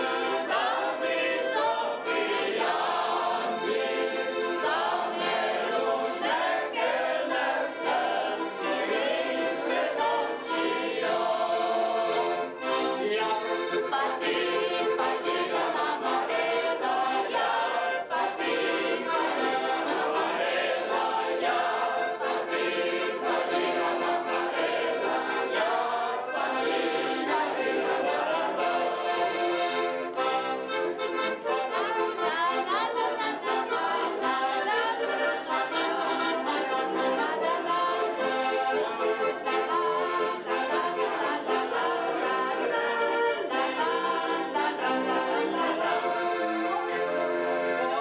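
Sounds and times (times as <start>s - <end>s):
button accordion: 0.0s - 48.0s
group of people singing: 0.0s - 48.0s.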